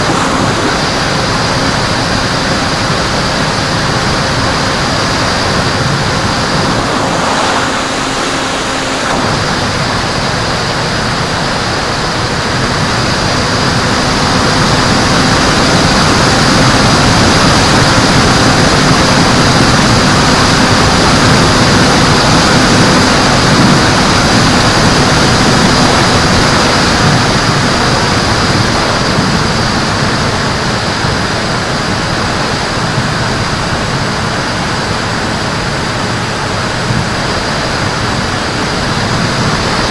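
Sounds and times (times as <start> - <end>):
electric motor and propeller hum: 0.0 - 39.9
rushing airflow: 0.0 - 39.9.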